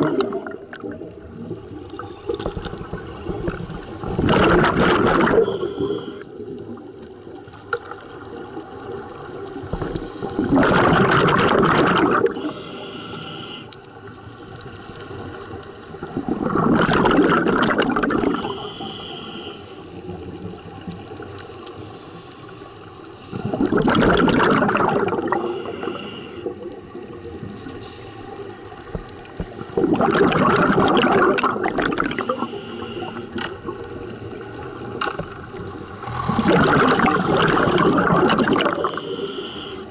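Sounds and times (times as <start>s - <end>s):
underwater exhaled bubbles gurgling: 0.0s - 39.9s.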